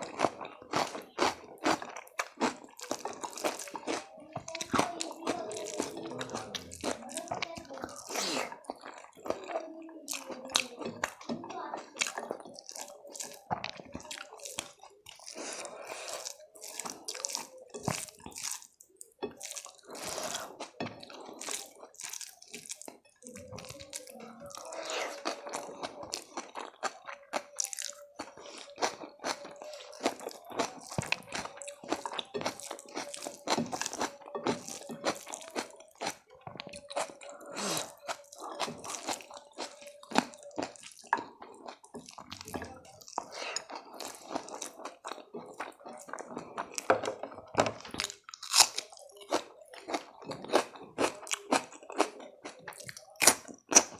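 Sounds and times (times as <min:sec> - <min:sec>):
crunching and wet chewing: 0:00.0 - 0:53.9.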